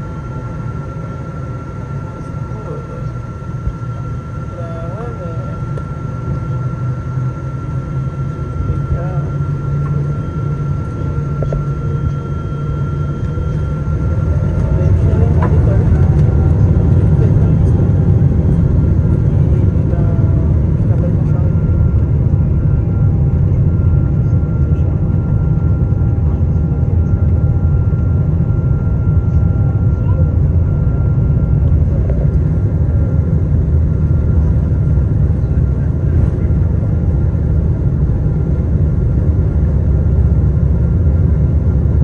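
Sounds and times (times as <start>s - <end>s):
faint steady whine: 0.0s - 42.0s
jet engine low rumble: 0.0s - 42.0s.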